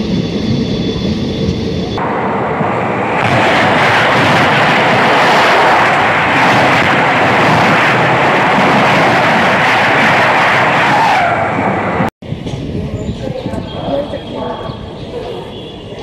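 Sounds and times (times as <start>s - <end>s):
passing train rushing: 0.0s - 16.0s.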